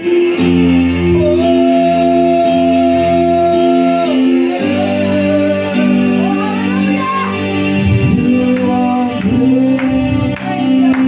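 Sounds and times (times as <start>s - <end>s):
electronic keyboard church music: 0.0s - 11.0s.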